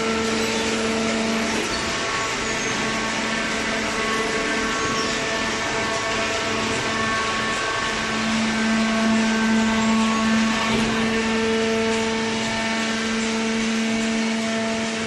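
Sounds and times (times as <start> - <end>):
baler machine humming: 0.0 - 15.0.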